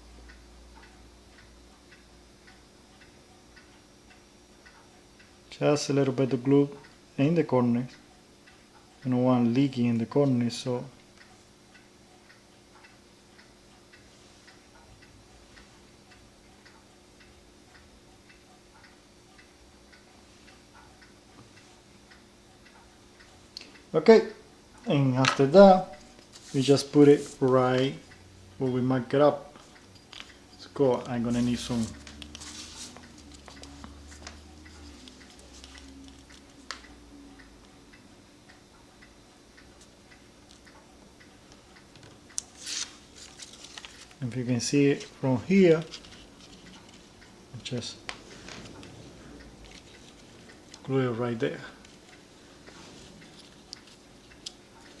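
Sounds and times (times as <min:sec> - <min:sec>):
low steady hum: 0:00.0 - 0:55.0
mechanical clock ticking: 0:00.0 - 0:55.0.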